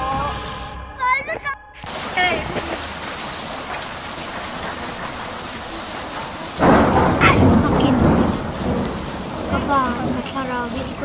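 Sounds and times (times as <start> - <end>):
thunderclap rumbling: 1.1 - 11.0
rain hiss: 1.8 - 11.0.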